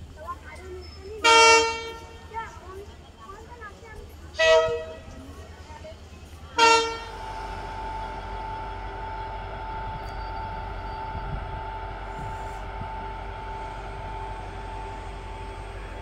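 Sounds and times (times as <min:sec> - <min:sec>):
train locomotive running: 0:00.0 - 0:16.0.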